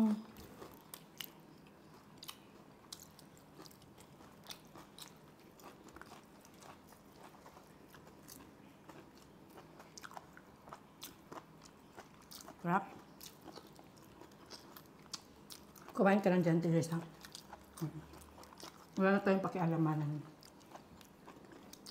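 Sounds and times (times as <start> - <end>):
chewing crispy food: 0.0 - 21.9.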